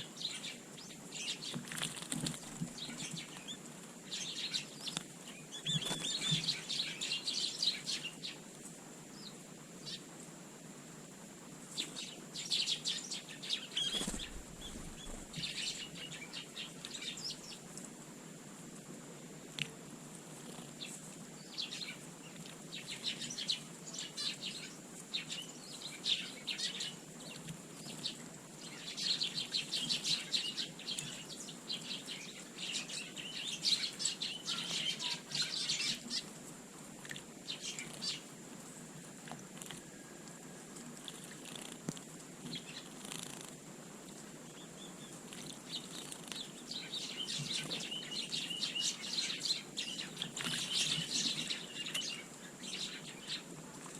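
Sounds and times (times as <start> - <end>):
small birds chirping: 0.0 - 10.2, 11.1 - 18.0, 18.7 - 40.2, 40.8 - 43.6, 44.2 - 53.9.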